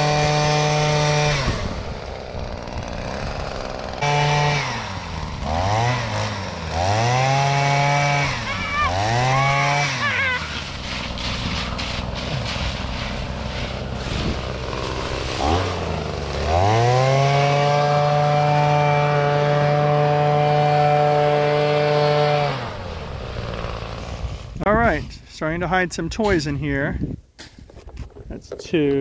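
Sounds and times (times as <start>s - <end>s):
small gasoline engine revving: 0.0s - 24.5s.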